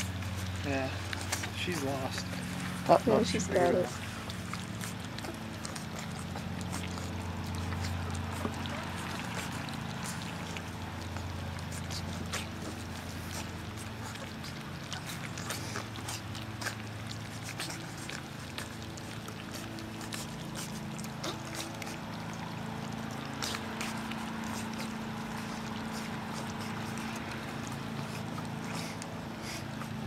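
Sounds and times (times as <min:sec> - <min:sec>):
constant low hum: 0:00.0 - 0:30.0
puppies lapping food from metal pan: 0:00.0 - 0:30.0.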